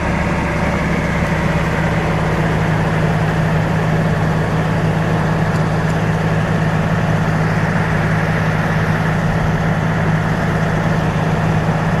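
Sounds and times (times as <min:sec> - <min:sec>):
bulldozer engine running: 0:00.0 - 0:12.0.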